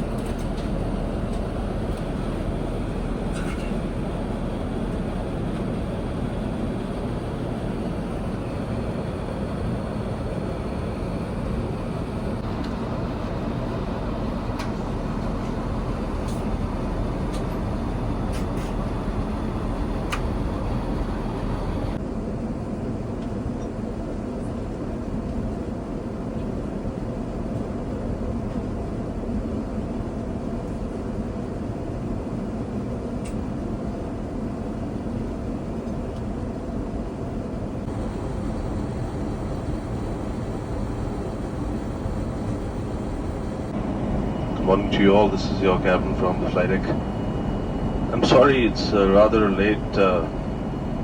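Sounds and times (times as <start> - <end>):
airplane cabin roar: 0.0 - 51.0.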